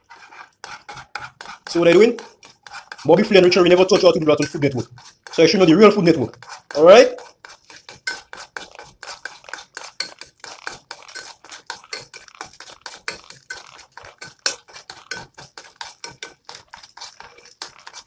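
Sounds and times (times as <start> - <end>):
utensil scraping a frying pan: 0.0 - 18.0.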